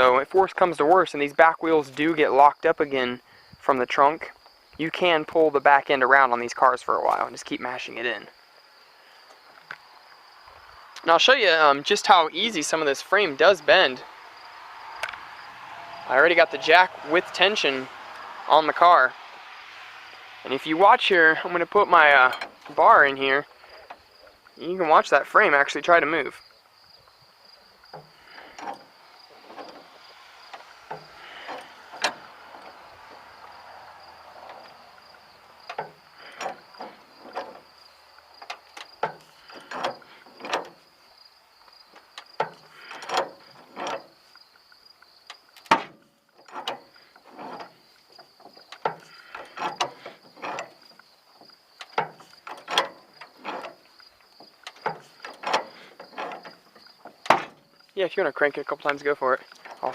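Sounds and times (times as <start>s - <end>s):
crickets chirping: 0.0s - 59.9s
jack squeaky creaks: 6.2s - 59.9s.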